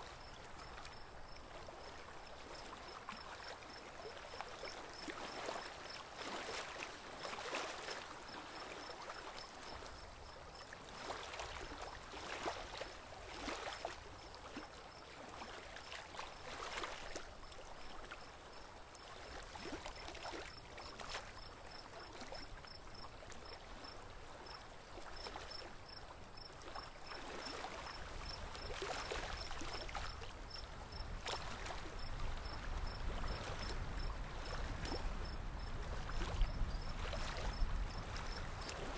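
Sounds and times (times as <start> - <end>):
water splashing around a boat: 0.0 - 38.9.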